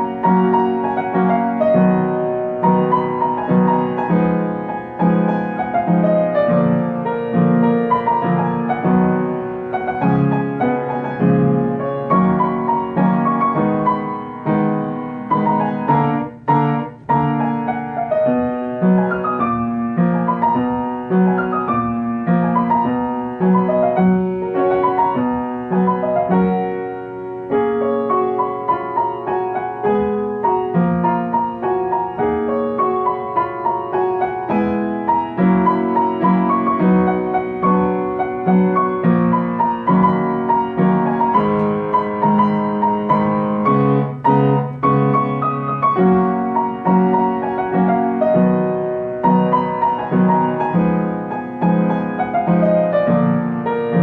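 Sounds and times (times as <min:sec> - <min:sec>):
solo piano pop melody: 0:00.0 - 0:54.0.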